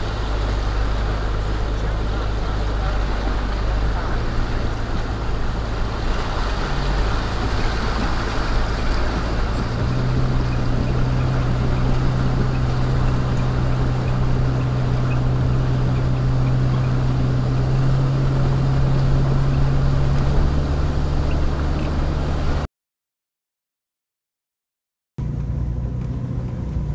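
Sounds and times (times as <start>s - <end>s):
car engine running: 0.0s - 22.7s, 25.2s - 26.9s
water washing around tyres: 0.0s - 22.7s.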